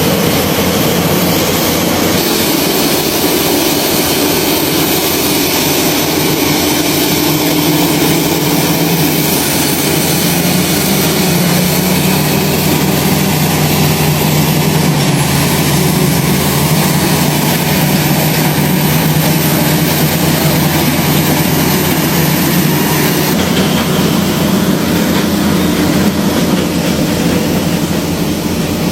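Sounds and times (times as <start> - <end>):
heavy diesel engines under load: 0.0 - 28.9.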